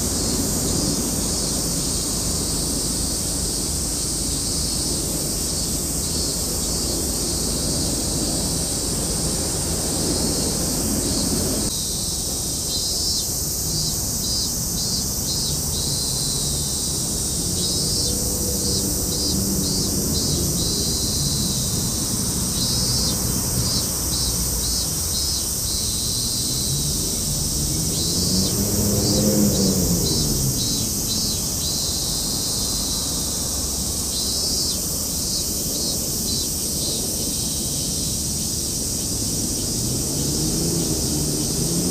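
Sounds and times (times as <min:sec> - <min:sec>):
engine passing by: 0:00.0 - 0:12.5, 0:13.5 - 0:41.9.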